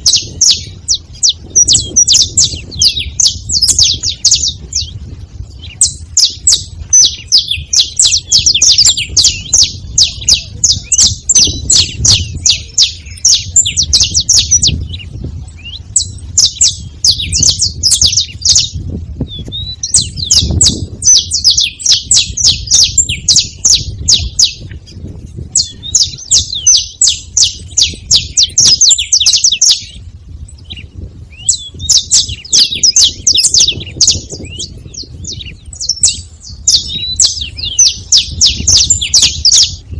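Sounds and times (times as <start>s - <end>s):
finch singing high chattering notes: 0.0s - 39.9s.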